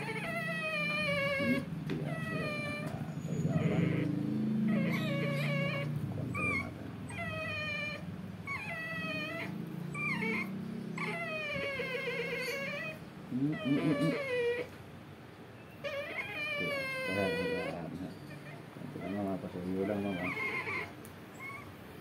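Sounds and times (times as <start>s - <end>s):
dog whining and crying: 0.0s - 14.8s, 15.6s - 22.0s.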